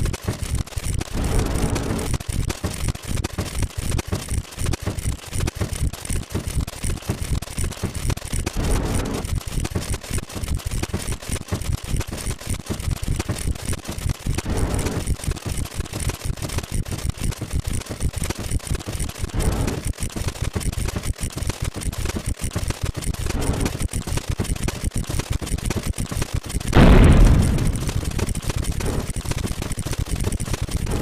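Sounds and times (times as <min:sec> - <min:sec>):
rapid clicking counter: 0:00.0 - 0:31.0.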